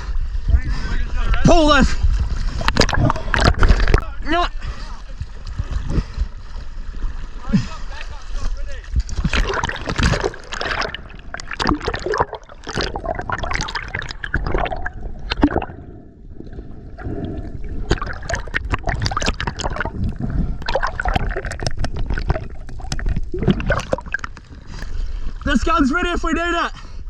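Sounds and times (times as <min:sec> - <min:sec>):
water splashing around swimmers: 0:00.0 - 0:26.0.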